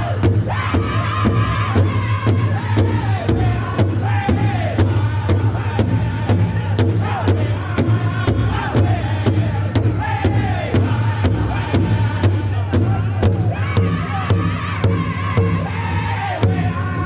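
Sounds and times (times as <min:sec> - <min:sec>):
large drum struck with sticks: 0:00.0 - 0:17.0
men singing together: 0:00.0 - 0:17.0.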